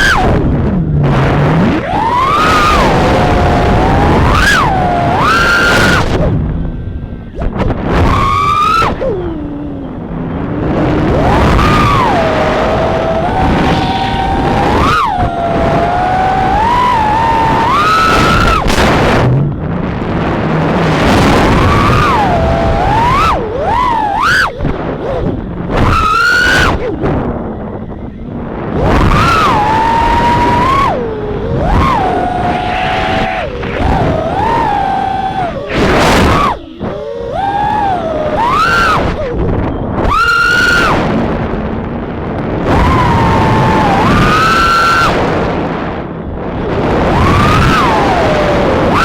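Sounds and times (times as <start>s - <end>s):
drone motors and propellers whining: 0.0s - 49.0s
rushing noise: 0.0s - 49.0s.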